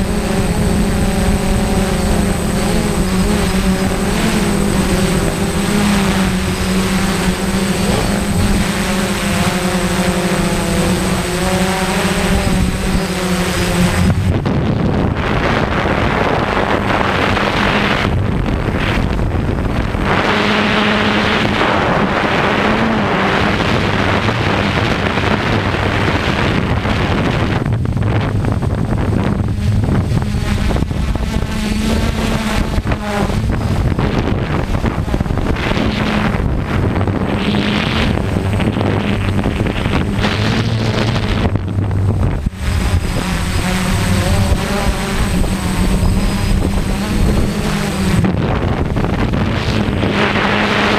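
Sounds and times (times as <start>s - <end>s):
drone propellers buzzing: 0.0s - 50.9s
wind on microphone: 0.0s - 50.9s.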